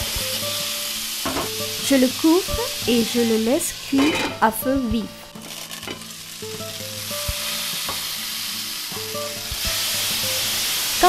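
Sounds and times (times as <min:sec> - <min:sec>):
squash sizzling in oil: 0:00.0 - 0:11.0.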